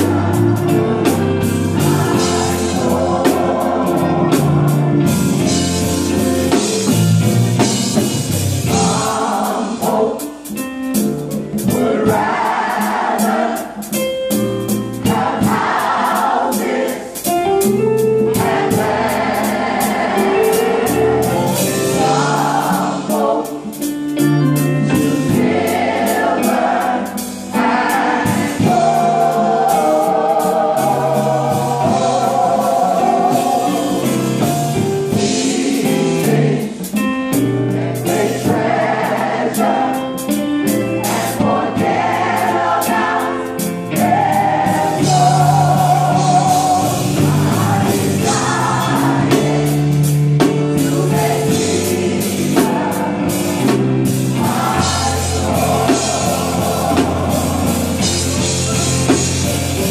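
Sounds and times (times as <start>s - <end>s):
drum and cymbal hits: 0.0s - 59.9s
gospel choir with live band: 0.0s - 59.9s.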